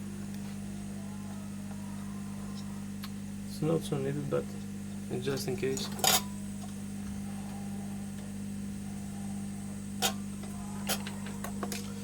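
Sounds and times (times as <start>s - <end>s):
hot air blower hum: 0.0s - 12.0s.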